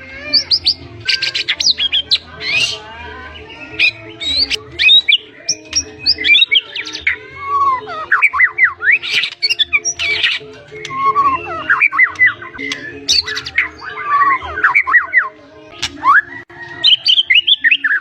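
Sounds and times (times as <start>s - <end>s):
bird singing: 0.0s - 18.0s.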